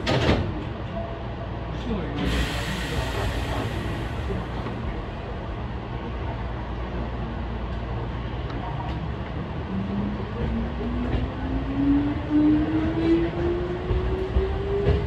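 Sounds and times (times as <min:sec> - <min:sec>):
train running gear rumble: 0:00.0 - 0:15.0.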